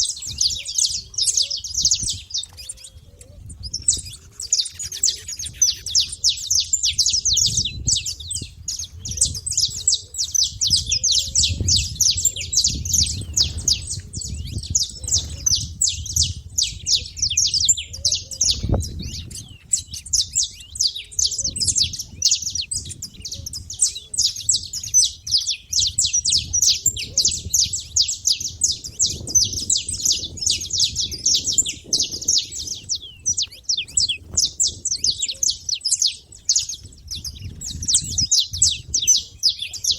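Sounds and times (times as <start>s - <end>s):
finches chirping rapidly: 0.0s - 39.9s.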